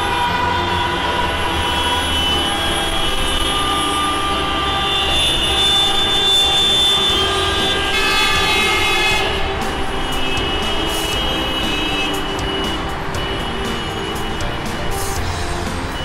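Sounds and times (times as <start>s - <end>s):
vehicle engine drone: 0.0s - 16.0s.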